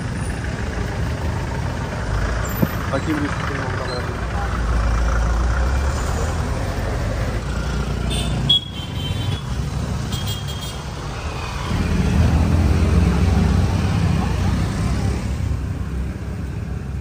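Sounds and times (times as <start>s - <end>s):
road traffic engine rumble: 0.0s - 17.0s.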